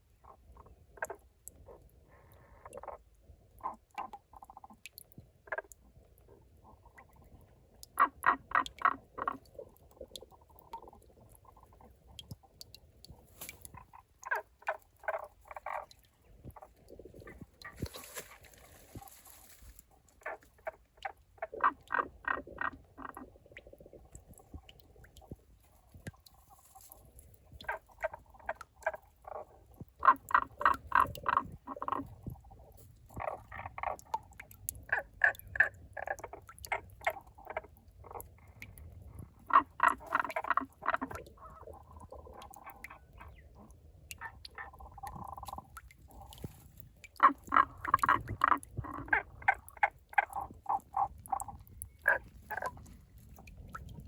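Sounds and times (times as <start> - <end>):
frog croaking: 0.2 - 7.2, 7.8 - 11.9, 13.4 - 19.5, 20.1 - 25.4, 27.5 - 53.2.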